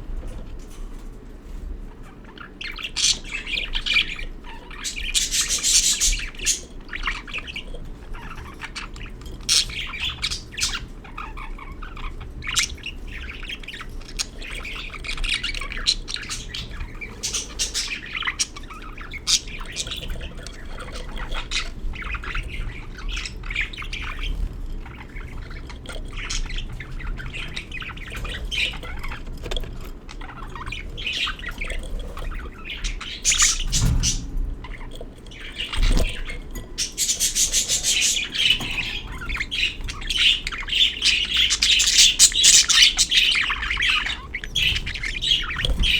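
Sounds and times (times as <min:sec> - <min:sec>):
budgerigars chirping and squawking: 0:00.0 - 0:45.9.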